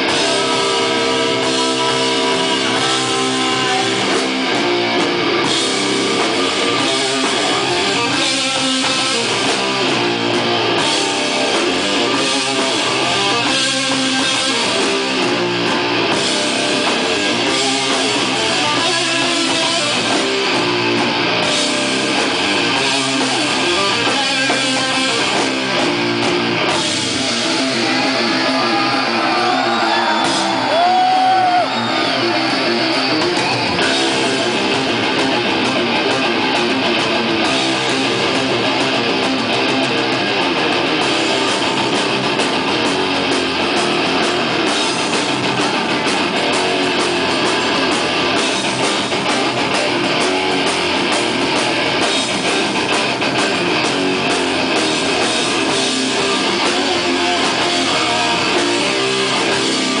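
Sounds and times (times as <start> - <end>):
bass: 0.0 - 60.0
distorted electric guitars riffing: 0.0 - 60.0
drum kit: 0.0 - 60.0.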